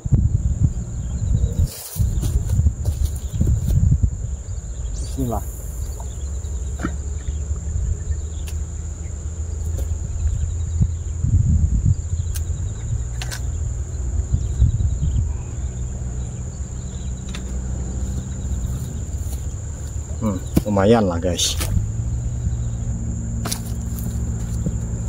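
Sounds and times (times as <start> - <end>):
insects droning: 0.0 - 25.0
wind rumble on microphone: 0.0 - 25.0.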